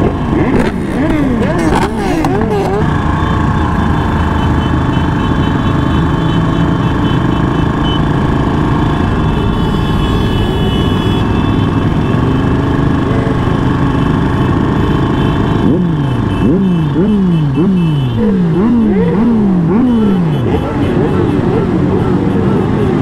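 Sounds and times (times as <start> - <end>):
motorcycle engines riding slowly: 0.0 - 23.0.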